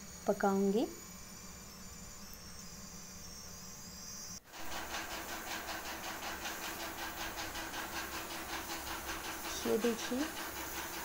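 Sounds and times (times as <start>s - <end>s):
pressure cooker whistling: 1.4s - 11.0s.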